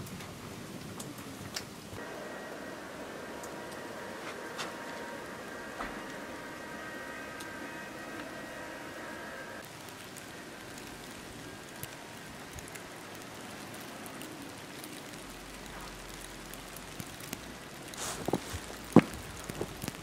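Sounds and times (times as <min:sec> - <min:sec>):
soft hiss of falling snow: 0:00.0 - 0:20.0.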